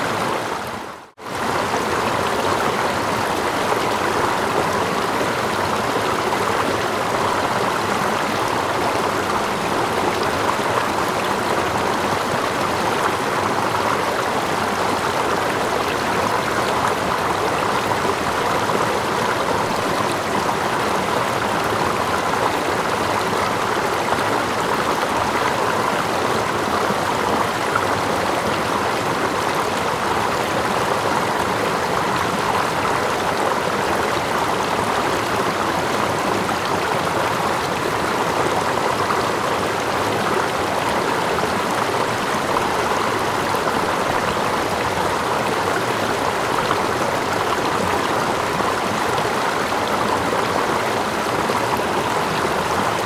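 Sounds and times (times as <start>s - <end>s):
stream water with waterfall: 0.0s - 53.0s.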